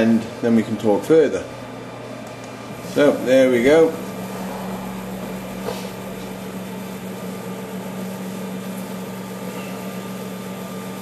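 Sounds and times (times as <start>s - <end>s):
machine hum: 1.4s - 11.0s.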